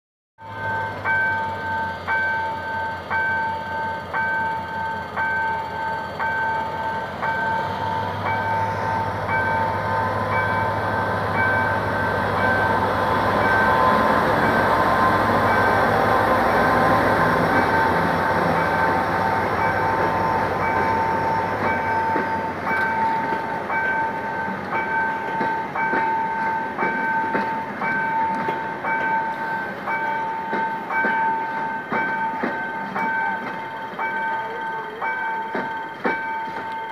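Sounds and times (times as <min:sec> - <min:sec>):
diesel locomotive engine: 0:00.4 - 0:36.9
train wheels clicking over rail joints: 0:01.1 - 0:36.9.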